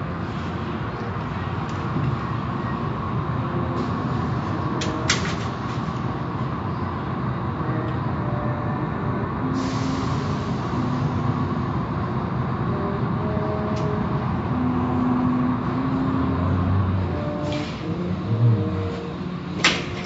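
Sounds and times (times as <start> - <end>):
car wash machinery rumble: 0.0 - 20.0.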